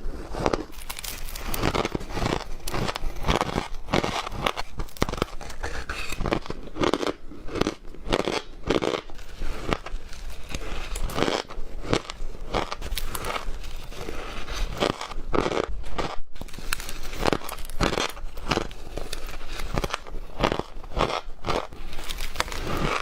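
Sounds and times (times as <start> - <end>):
ice crunching being chewed: 0.0 - 23.0.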